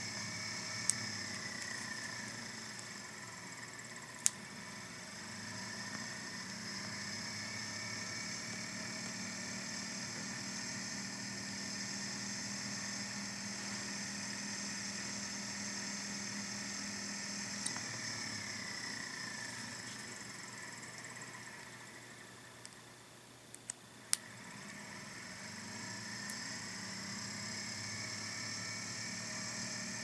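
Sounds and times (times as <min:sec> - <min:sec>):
vacuum motor whine: 0:00.0 - 0:23.3, 0:23.9 - 0:30.0.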